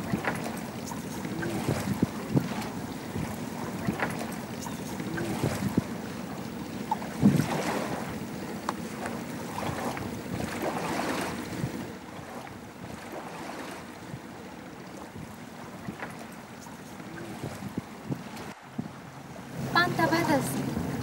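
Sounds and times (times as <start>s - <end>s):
wind on microphone: 0.0s - 13.2s, 13.8s - 19.0s
water lapping around a boat: 0.0s - 21.0s.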